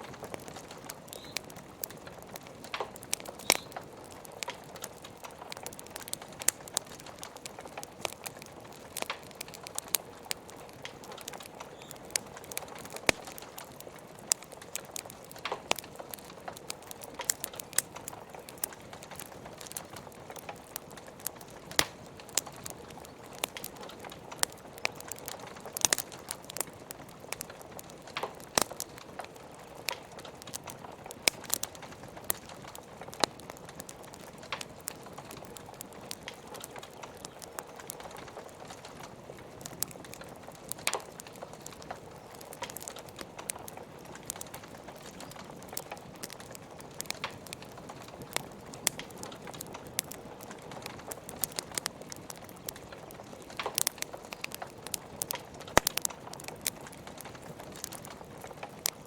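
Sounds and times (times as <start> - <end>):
log fire crackling and popping: 0.0 - 59.0.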